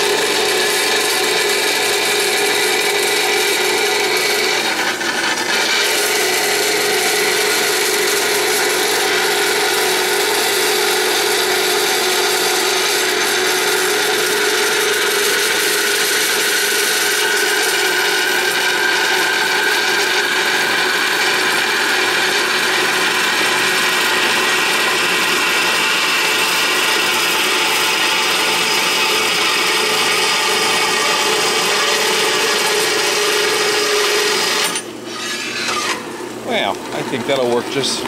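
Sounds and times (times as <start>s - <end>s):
bandsaw cutting steel plate: 0.0s - 38.0s.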